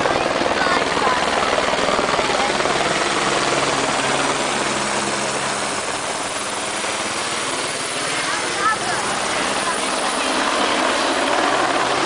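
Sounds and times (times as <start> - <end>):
helicopter passing overhead: 0.0 - 12.0.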